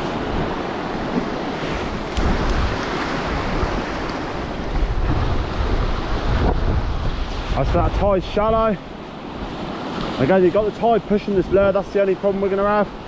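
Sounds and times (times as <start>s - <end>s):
wind buffeting microphone: 0.0s - 11.9s
sea surf washing over boulders: 0.0s - 13.0s.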